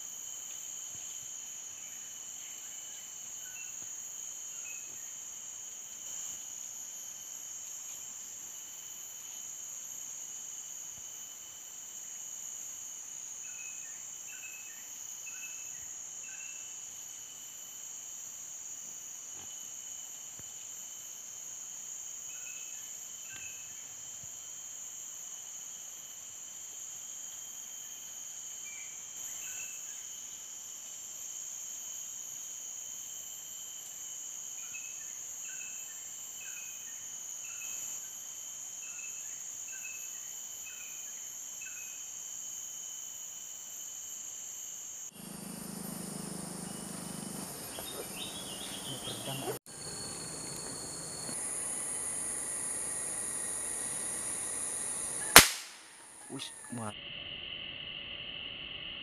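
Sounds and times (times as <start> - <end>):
insect chorus drone: 0.0 - 59.0.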